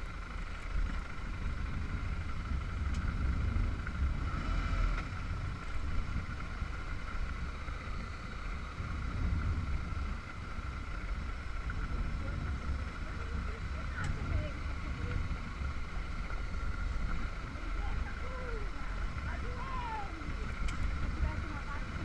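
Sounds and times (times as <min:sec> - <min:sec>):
faint steady whine: 0:00.0 - 0:22.0
motorcycle engine rumbling: 0:00.0 - 0:22.0.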